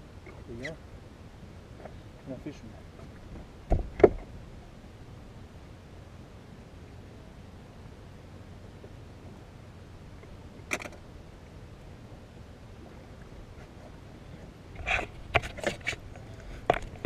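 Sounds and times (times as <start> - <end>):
boat low rumble: 0.0 - 17.0.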